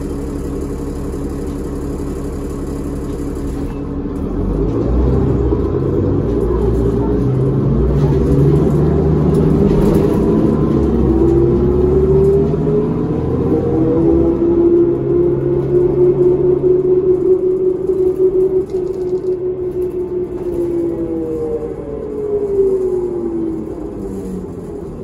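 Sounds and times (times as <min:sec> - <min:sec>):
bus diesel engine accelerating: 0:00.0 - 0:25.0.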